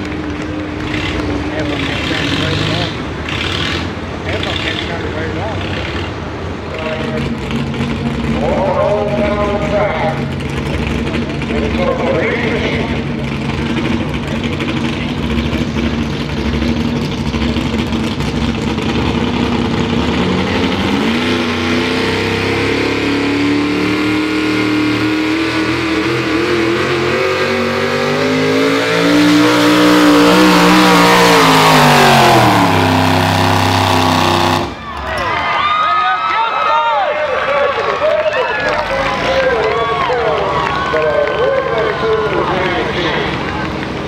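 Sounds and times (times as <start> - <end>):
truck engine revving: 0.0 - 35.2, 37.2 - 44.0.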